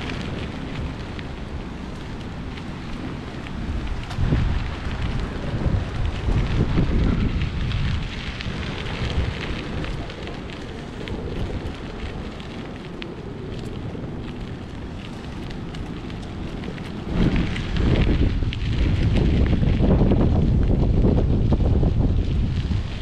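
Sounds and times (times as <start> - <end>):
faint crackles: 0.0 - 23.0
wind buffeting microphone: 0.0 - 23.0.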